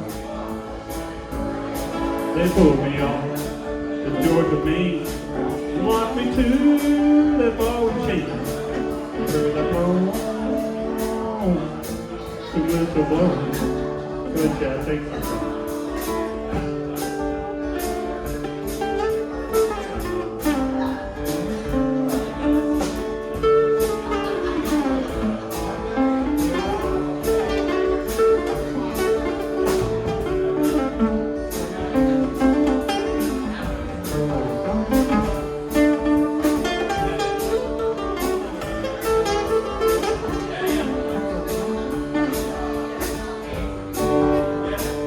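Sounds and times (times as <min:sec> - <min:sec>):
slide guitar lead: 0:00.0 - 0:45.0
strummed rhythm guitar: 0:00.0 - 0:45.0.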